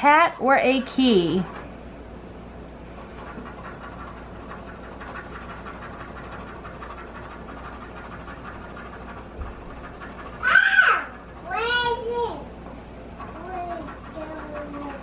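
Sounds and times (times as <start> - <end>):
scratching lottery ticket: 0.0 - 1.7, 2.9 - 11.8, 13.2 - 15.0.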